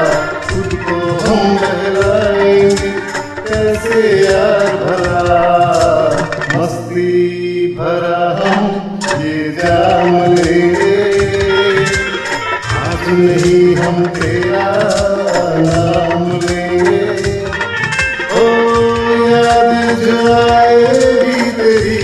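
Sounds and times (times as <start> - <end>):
karaoke backing track melody: 0.0 - 22.0.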